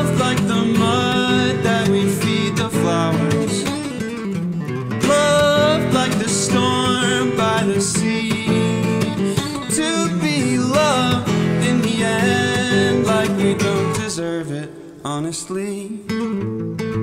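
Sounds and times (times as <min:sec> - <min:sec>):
man singing: 0:00.0 - 0:04.3, 0:05.0 - 0:16.5
acoustic guitar strumming: 0:00.0 - 0:17.0.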